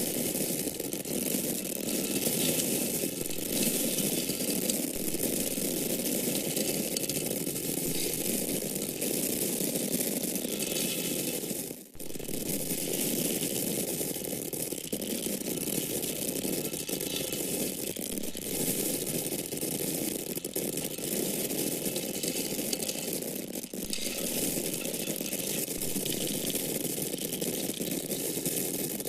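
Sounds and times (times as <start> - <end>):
grain kernels pouring: 0.0 - 29.0.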